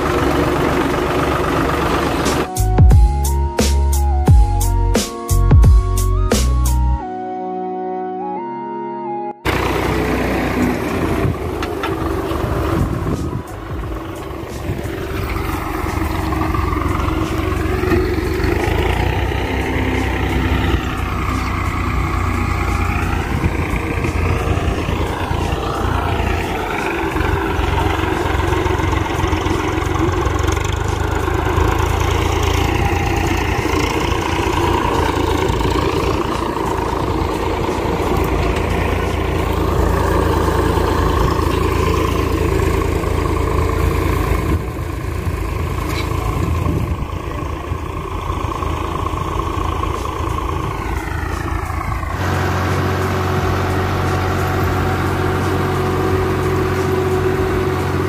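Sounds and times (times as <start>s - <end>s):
tractor diesel engine running: 0.0s - 7.1s, 9.4s - 58.0s.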